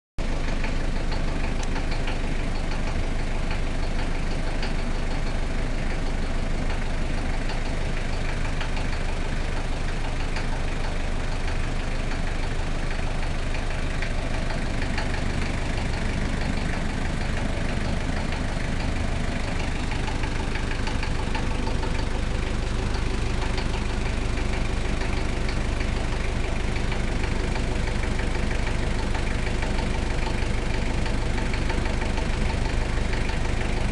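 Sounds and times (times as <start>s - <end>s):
diesel engine idling: 0.2s - 33.9s
faint engine ticks: 0.2s - 33.9s.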